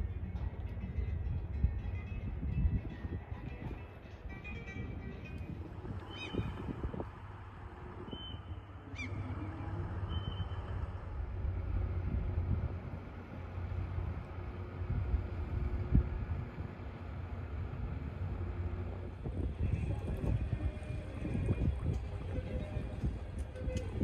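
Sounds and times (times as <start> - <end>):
yacht engine rumble: 0.0 - 24.0.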